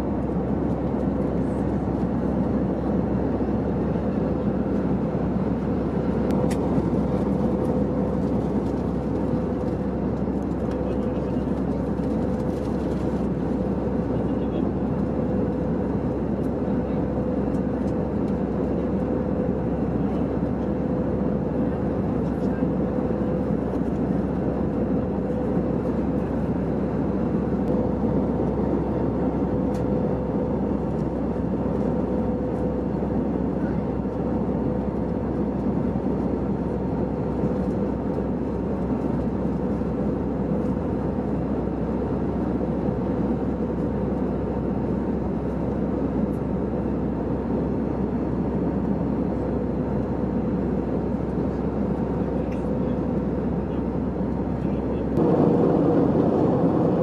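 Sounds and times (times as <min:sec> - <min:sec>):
airflow rush and engine drone: 0:00.0 - 0:57.0
constant hum: 0:00.0 - 0:57.0.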